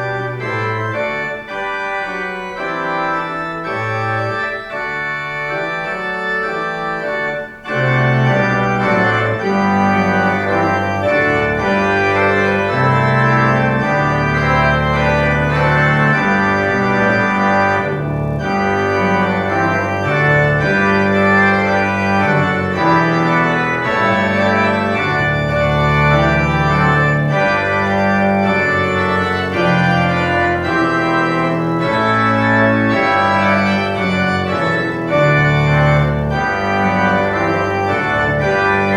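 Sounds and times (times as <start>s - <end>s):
organ playing a march: 0.0s - 38.9s.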